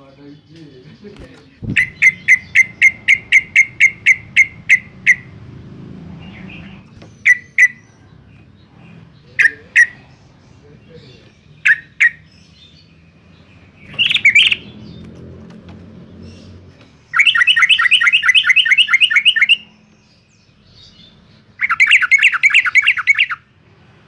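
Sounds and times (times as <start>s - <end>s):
bird chirping and calling: 0.0s - 23.6s.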